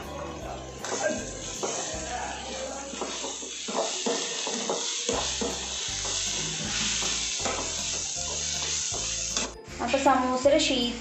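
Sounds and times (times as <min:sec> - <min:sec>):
masala sizzling in oil: 0:00.4 - 0:10.4
metal spatula scraping pan: 0:00.7 - 0:10.0.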